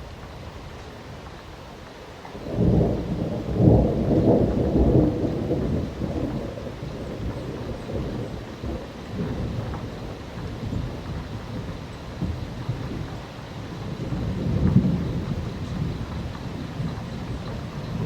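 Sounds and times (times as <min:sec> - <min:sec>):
steady rain: 0:00.0 - 0:18.0
thunder rumbling: 0:02.4 - 0:18.0.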